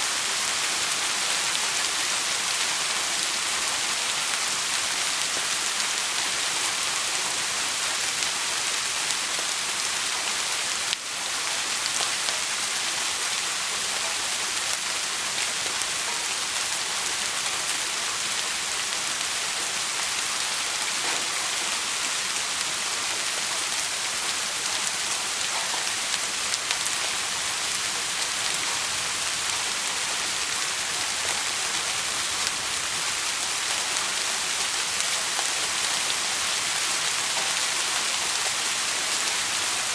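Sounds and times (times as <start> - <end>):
dense rain on a surface: 0.0 - 39.9.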